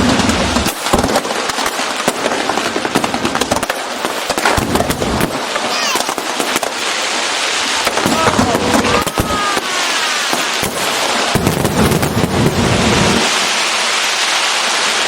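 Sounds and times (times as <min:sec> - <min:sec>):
firework bangs: 0:00.0 - 0:15.0
fireworks crackling: 0:00.0 - 0:15.0.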